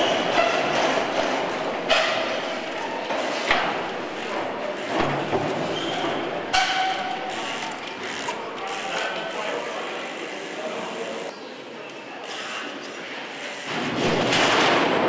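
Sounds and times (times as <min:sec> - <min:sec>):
bike freewheel hub clicking: 0:00.0 - 0:11.3, 0:12.2 - 0:14.2.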